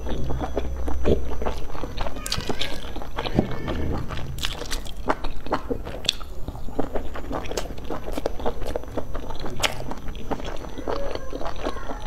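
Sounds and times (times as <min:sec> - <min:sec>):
wet chewing smacks: 0:00.0 - 0:12.0.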